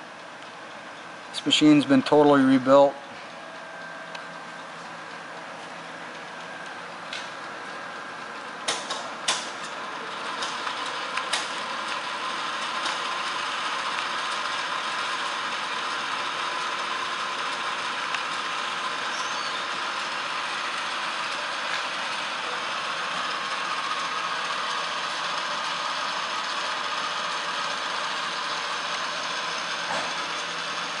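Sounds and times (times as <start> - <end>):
lathe running: 0.0 - 31.0.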